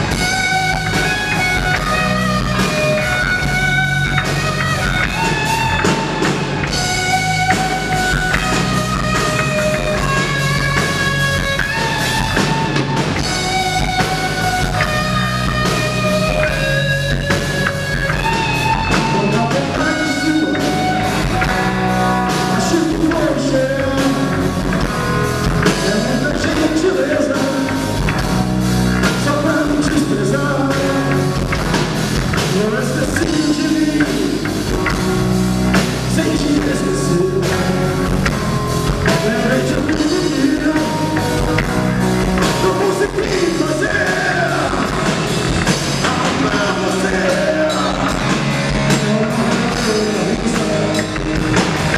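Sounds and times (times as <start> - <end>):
drum kit: 0.0 - 51.9
electric guitars: 0.0 - 51.9
live rock band: 0.0 - 51.9.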